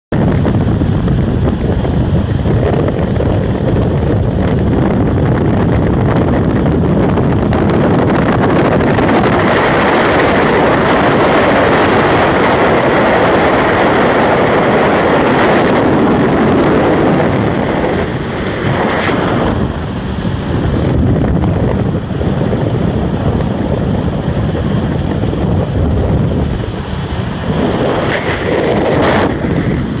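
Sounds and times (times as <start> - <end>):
hull on water: 0.1 - 30.0
outboard motor: 0.1 - 30.0
wind buffeting microphone: 0.1 - 30.0.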